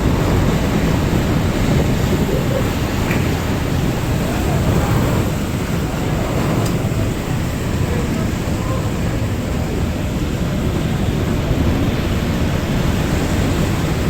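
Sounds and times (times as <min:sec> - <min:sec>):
ferry engines rumbling: 0:00.0 - 0:14.0
wind and water rushing: 0:00.0 - 0:14.0.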